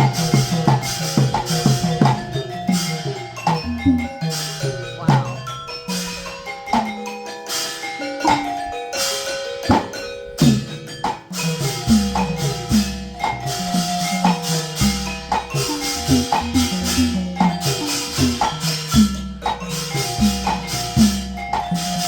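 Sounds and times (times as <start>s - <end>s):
drum beats: 0.0s - 22.0s
xylophone-like mallet notes: 0.0s - 22.0s.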